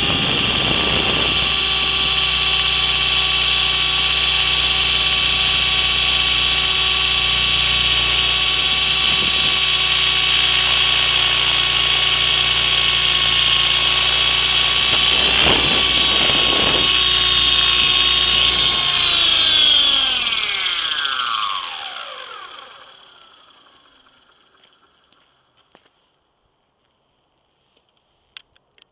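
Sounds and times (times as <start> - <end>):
model helicopter rotor whine: 0.0 - 25.9.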